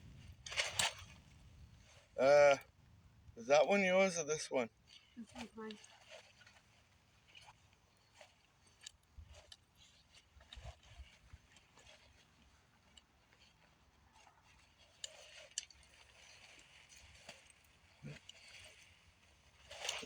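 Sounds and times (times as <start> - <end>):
faint clicks and rustles: 0.0 - 3.8, 4.7 - 20.0.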